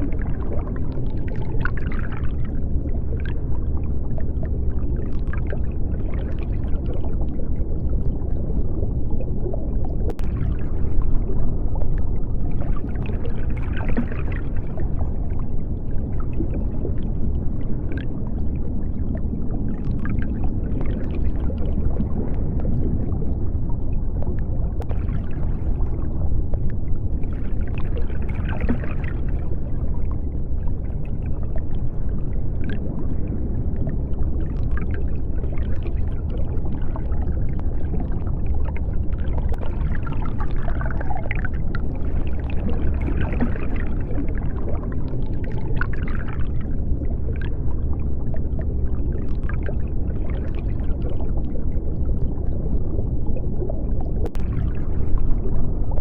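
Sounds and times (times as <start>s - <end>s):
deep underwater rumble: 0.0s - 56.0s
faint clicks and swishes: 0.0s - 56.0s.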